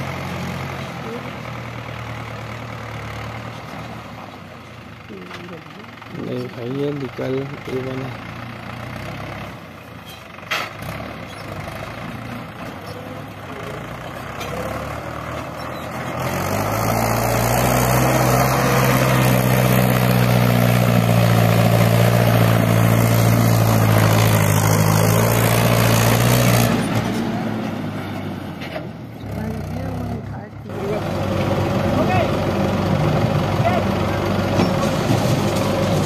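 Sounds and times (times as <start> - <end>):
diesel engine running and revving: 0.0 - 36.0.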